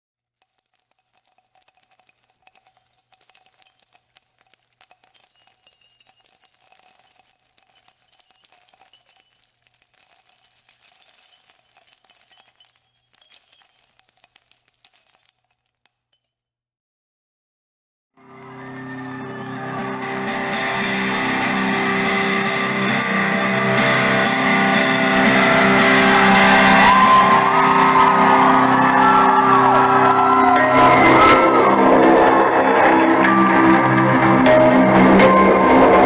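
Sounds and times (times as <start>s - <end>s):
small bells jingling: 0.4s - 16.5s, 22.4s - 36.0s.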